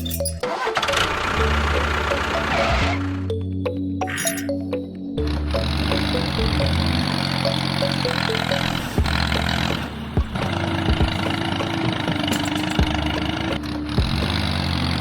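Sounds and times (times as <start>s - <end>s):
engine running: 0.0s - 3.6s, 5.2s - 15.0s
light background music: 0.0s - 15.0s.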